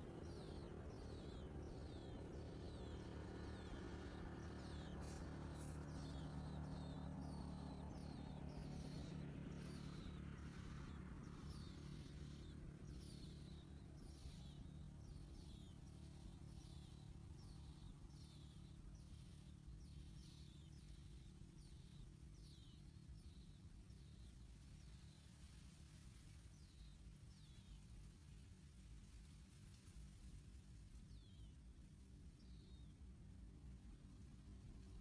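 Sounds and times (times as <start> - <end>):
faint low hum: 0.0 - 35.0
small bird chirping: 0.0 - 35.0.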